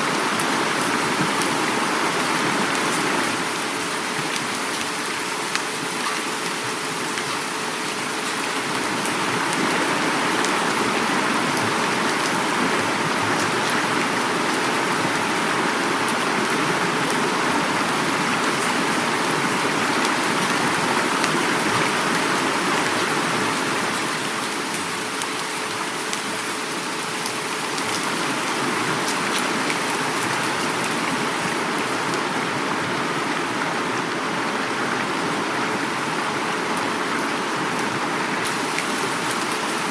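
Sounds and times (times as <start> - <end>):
heavy rain pattering: 0.0 - 39.9
river water rushing: 0.0 - 39.9.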